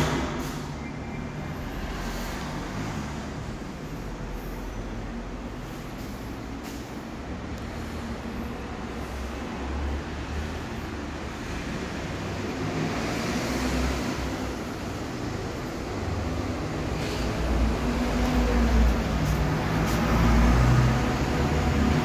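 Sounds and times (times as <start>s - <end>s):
passing cars: 0.0s - 22.0s.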